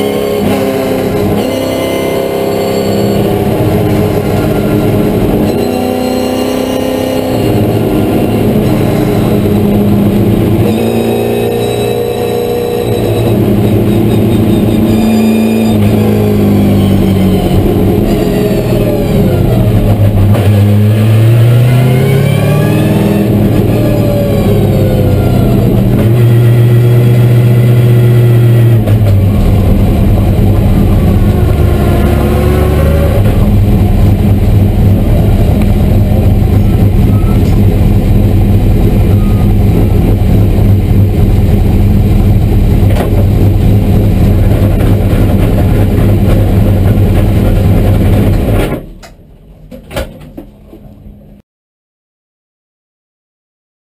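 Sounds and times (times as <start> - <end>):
race car engine revving: 0.0 - 48.8.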